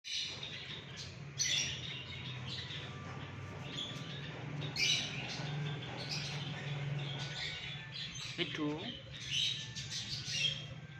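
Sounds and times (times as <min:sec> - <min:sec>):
parakeet chirping calls: 0:00.1 - 0:10.8.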